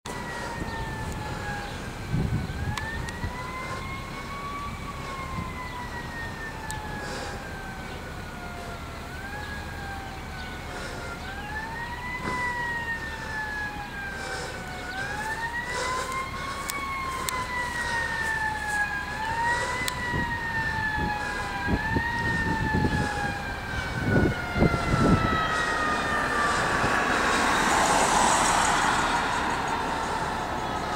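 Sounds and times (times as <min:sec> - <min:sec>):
fire engine siren wailing: 0:00.1 - 0:30.9.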